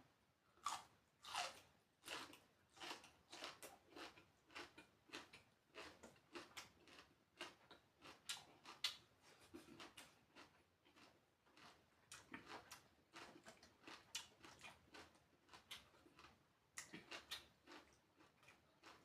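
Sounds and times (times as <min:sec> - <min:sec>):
person chewing food: 0:00.6 - 0:19.0.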